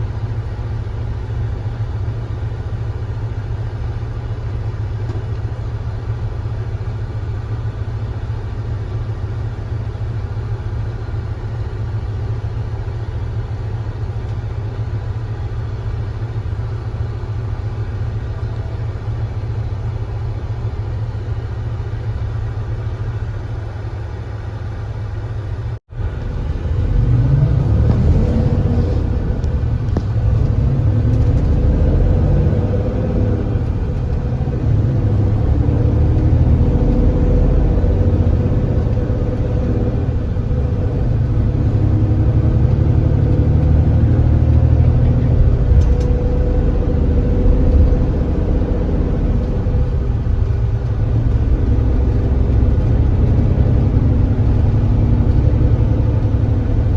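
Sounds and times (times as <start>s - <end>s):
coach engine rumbling: 0.0s - 56.9s.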